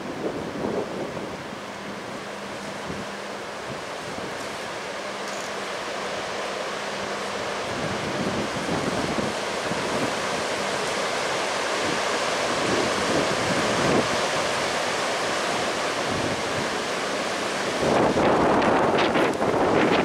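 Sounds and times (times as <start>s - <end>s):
gusty wind through branches: 0.0s - 20.0s.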